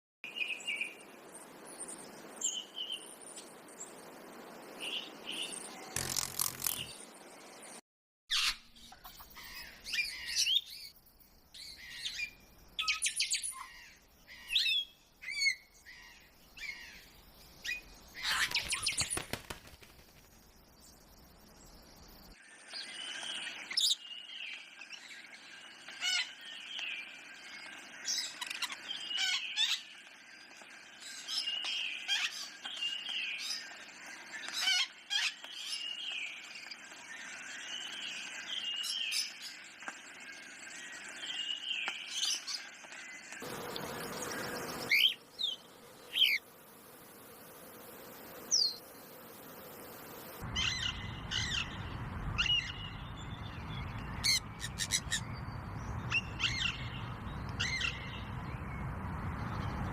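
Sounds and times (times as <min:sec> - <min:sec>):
forest birds chirping: 0:00.2 - 0:59.9.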